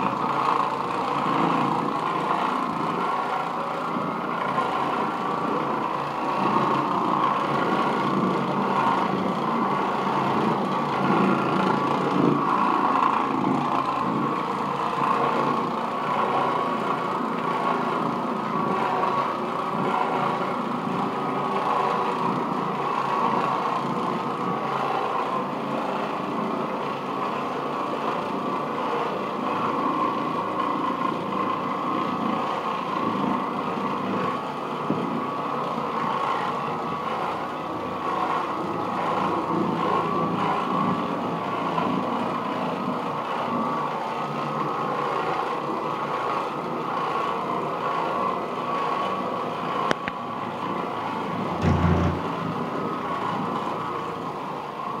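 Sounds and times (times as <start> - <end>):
floor machine scrubbing carpet: 0.0 - 55.0.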